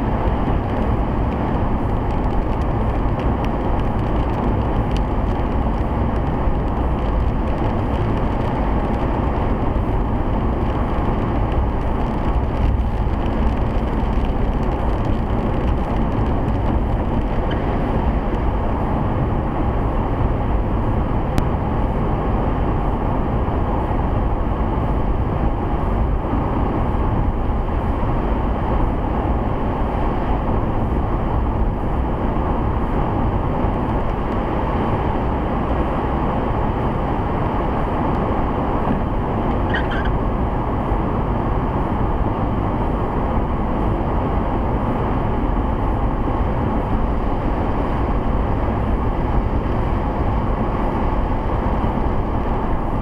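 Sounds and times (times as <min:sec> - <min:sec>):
car engine droning: 0:00.0 - 0:53.0.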